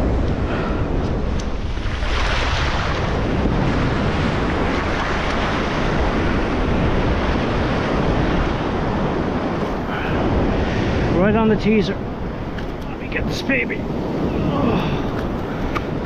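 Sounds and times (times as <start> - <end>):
ocean surf on sand: 0.0 - 16.0
wind rumbling on microphone: 0.0 - 16.0.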